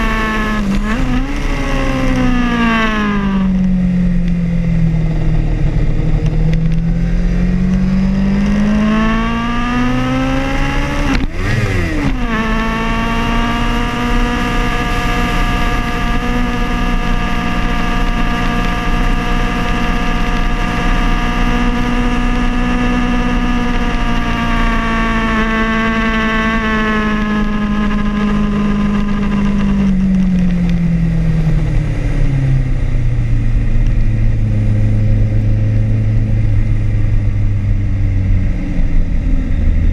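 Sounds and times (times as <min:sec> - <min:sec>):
motorcycle engine at speed: 0:00.0 - 0:39.9
wind rush on microphone: 0:00.0 - 0:39.9.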